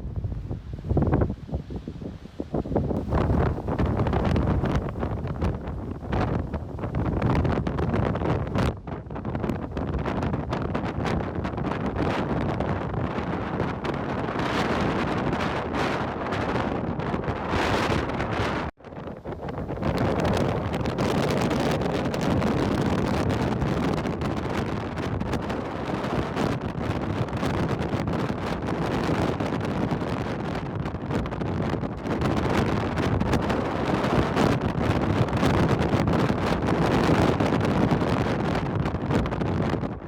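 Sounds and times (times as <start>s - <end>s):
strong wind gusting over microphone: 0.0s - 40.0s.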